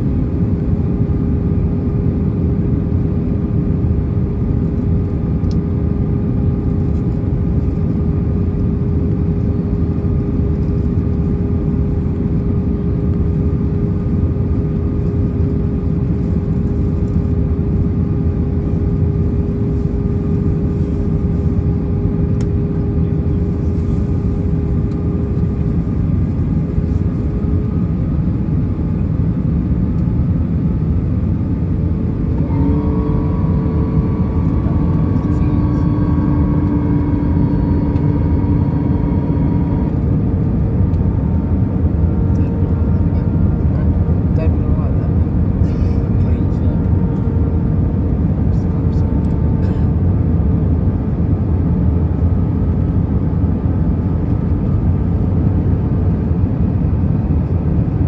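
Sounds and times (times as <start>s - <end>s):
airflow and engine rush: 0.0s - 58.0s
steady hum: 0.0s - 58.0s
whine: 0.0s - 58.0s.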